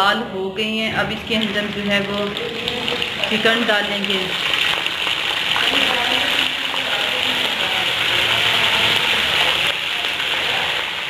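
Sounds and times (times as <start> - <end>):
chicken sizzling in hot fat: 1.2 - 11.0.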